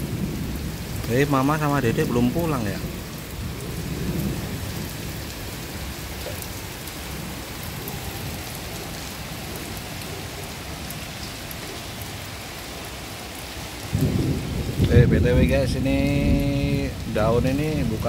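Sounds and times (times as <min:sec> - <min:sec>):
rain on pavement and gates: 0:00.0 - 0:18.0.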